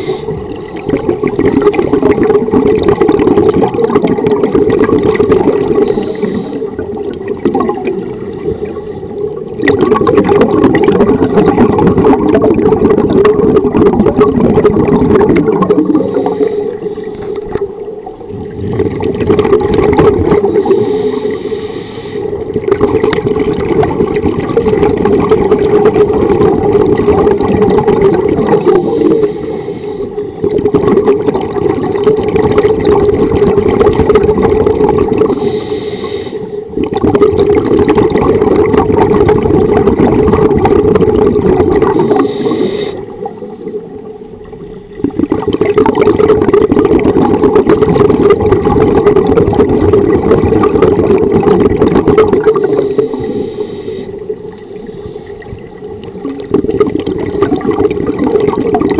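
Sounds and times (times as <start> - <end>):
muffled underwater bubbling: 0.0 - 58.9.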